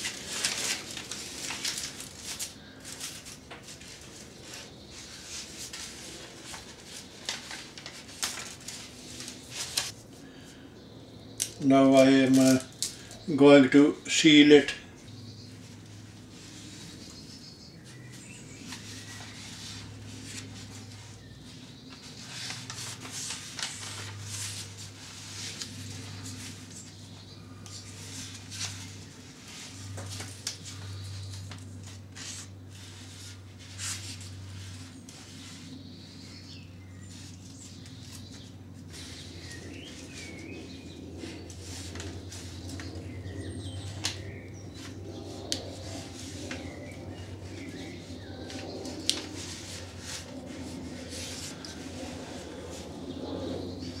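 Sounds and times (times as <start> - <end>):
crackling and rustling wrap: 0.0 - 10.6, 11.4 - 13.4, 15.1 - 54.0.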